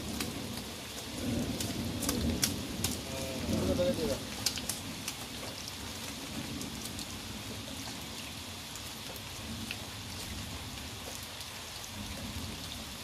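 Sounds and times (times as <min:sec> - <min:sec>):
raindrops ticking close by: 0:00.0 - 0:13.0
steady rain falling: 0:00.0 - 0:13.0.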